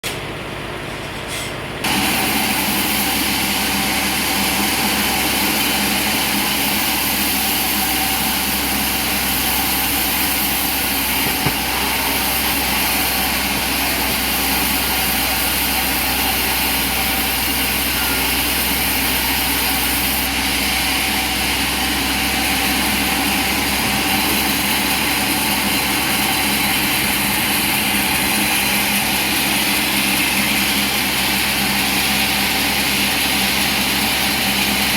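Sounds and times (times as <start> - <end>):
heavy machinery humming: 0.0 - 34.9.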